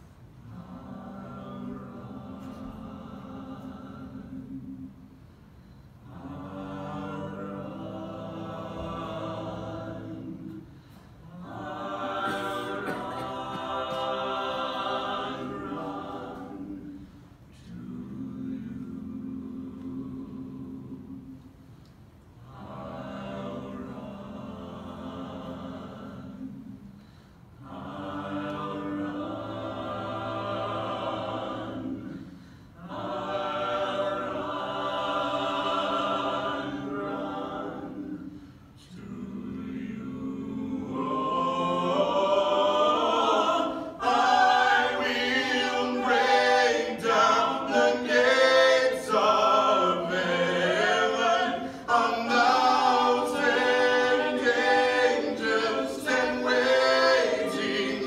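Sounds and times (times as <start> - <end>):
a cappella ensemble singing: 0.0 - 58.0.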